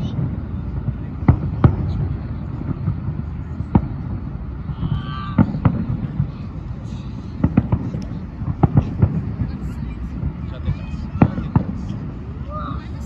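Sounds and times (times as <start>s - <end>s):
distant fireworks bursting: 0.0s - 13.0s
steady low rumble: 0.0s - 13.0s.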